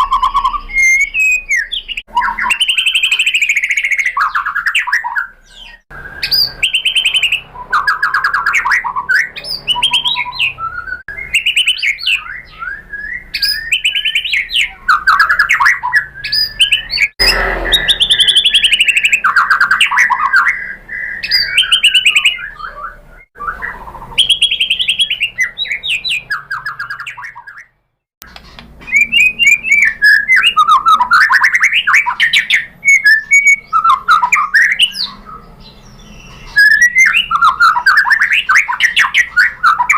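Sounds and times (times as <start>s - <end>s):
bird singing whistles and trills: 0.0s - 27.8s, 28.4s - 39.9s.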